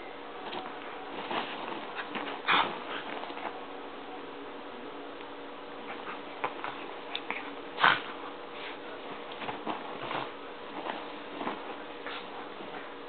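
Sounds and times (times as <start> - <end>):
dogs scuffling: 0.4 - 3.7, 5.8 - 13.0.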